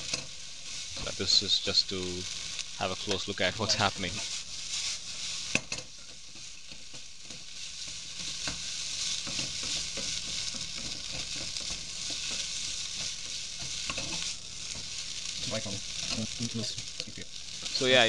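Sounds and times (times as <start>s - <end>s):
vegetables sizzling in a wok: 0.0s - 18.0s
wooden spatula scraping a pan: 0.0s - 18.0s.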